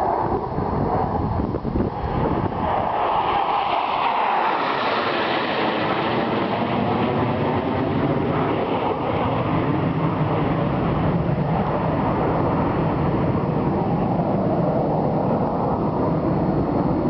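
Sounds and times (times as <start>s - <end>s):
jet engine roaring: 0.0s - 17.0s.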